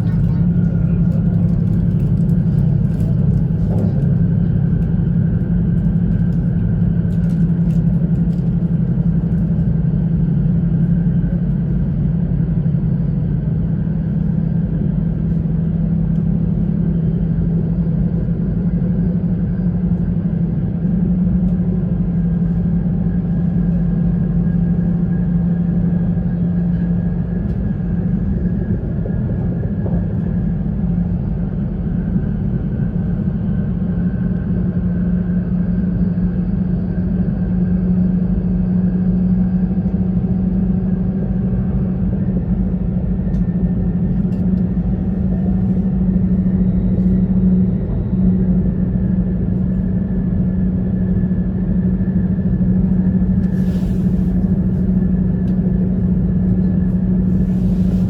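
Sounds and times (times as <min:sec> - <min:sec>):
train rumble inside cabin: 0:00.0 - 0:58.0.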